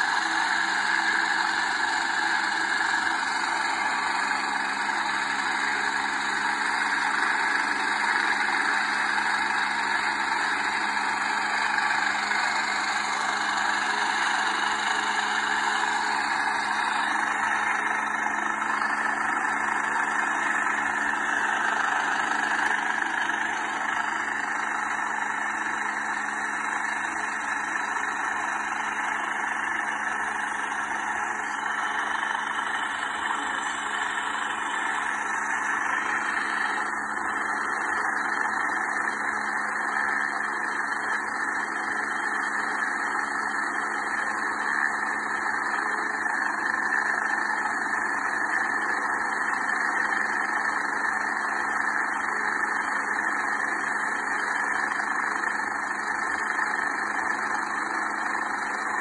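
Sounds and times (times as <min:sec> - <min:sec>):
helicopter idling: 0:00.0 - 0:59.0.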